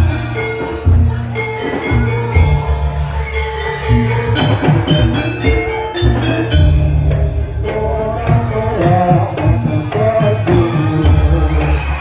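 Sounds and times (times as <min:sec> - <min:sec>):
hand drums beating: 0:00.0 - 0:12.0
struck metallophone notes: 0:00.0 - 0:12.0.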